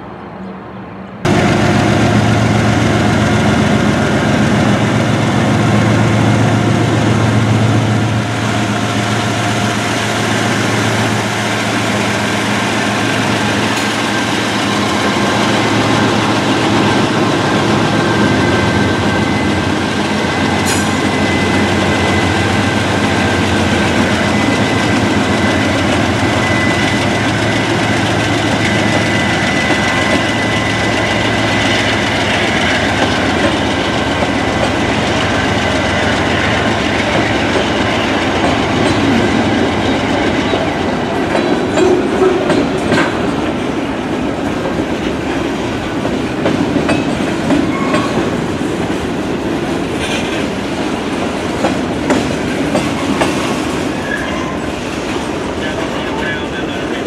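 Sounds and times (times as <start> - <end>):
locomotive engines droning: 0.0 - 57.0
train rumbling: 0.0 - 57.0.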